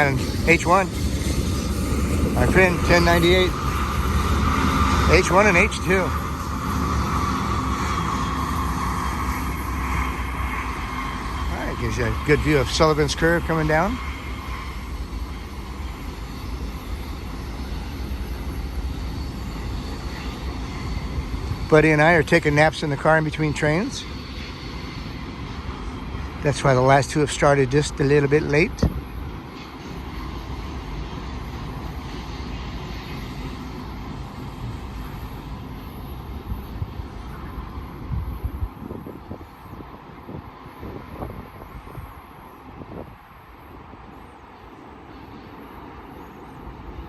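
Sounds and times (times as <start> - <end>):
distant freight train rumble: 0.0 - 47.0.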